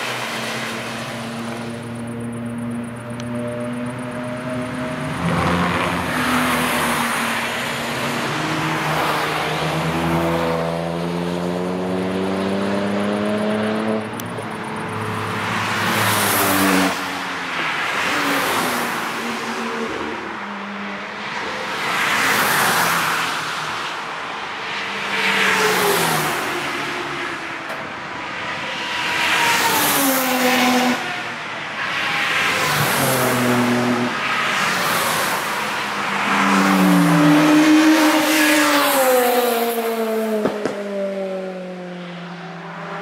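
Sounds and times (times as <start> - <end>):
race cars revving past: 0.0 - 24.0, 24.6 - 27.7, 28.4 - 43.0.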